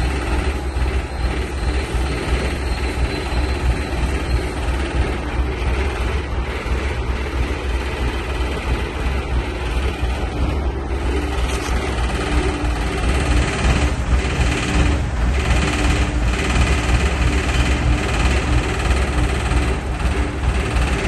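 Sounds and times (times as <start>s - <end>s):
paver engine low rumble: 0.0s - 21.0s.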